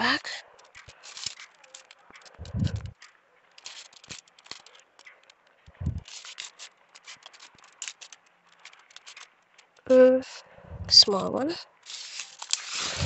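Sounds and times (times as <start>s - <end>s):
hands scraping soil and leaves: 0.0s - 13.0s.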